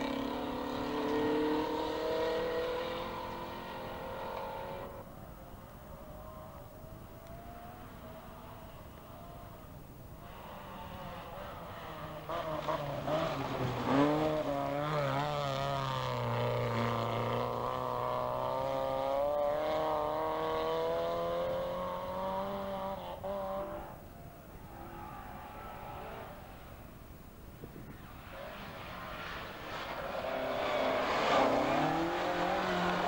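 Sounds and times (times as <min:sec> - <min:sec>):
rally car engine at high revs: 0:00.0 - 0:05.1, 0:07.2 - 0:24.0, 0:27.8 - 0:33.0.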